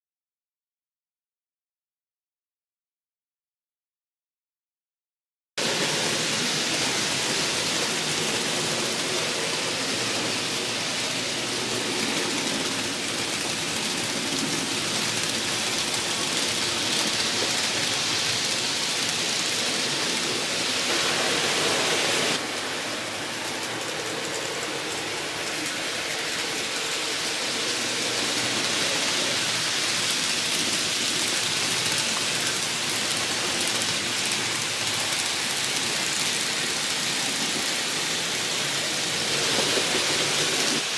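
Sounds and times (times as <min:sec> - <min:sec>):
model train wheels on rails: 0:05.6 - 0:40.9.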